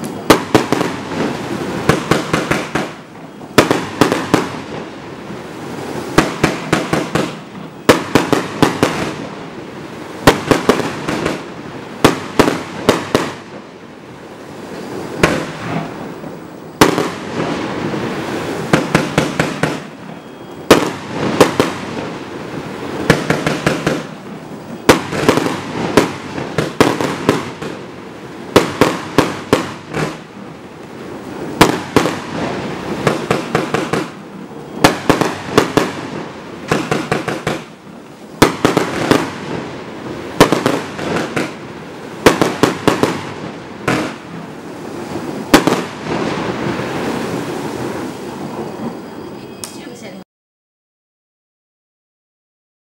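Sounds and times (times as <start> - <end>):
fireworks launching and bursting: 0.0 - 50.1.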